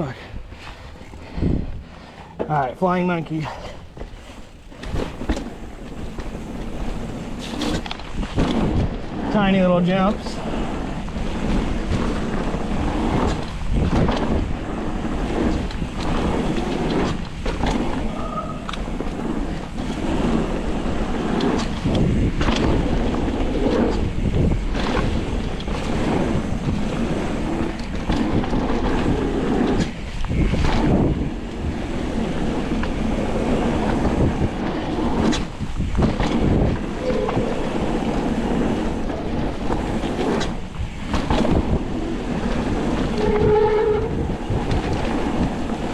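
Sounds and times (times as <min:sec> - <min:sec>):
wind on microphone: 0:00.0 - 0:02.4, 0:03.3 - 0:45.9
tyres rumbling over dirt: 0:00.0 - 0:45.9
bike knocking and rattling: 0:00.6 - 0:45.9.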